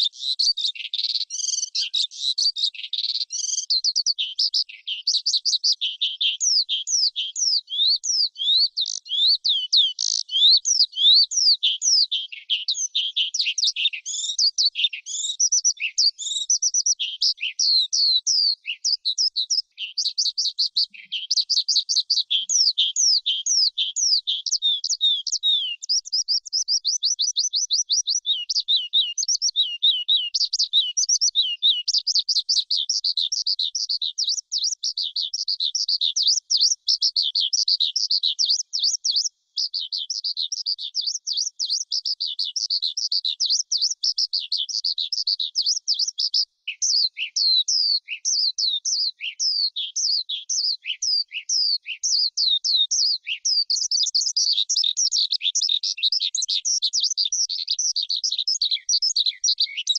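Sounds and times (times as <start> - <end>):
skylark singing: 0.0 - 59.9.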